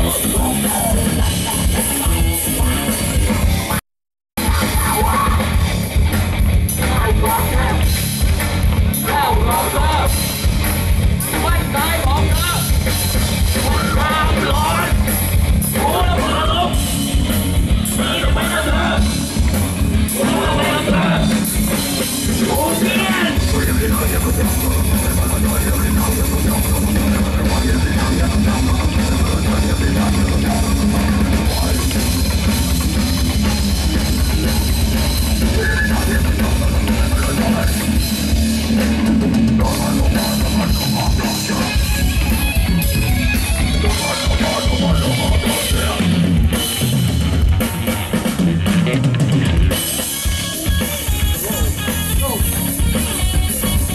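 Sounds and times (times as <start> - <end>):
drum kit: 0.0 - 3.8, 4.4 - 53.9
bass guitar: 0.0 - 53.9
distorted electric guitar: 0.0 - 53.9.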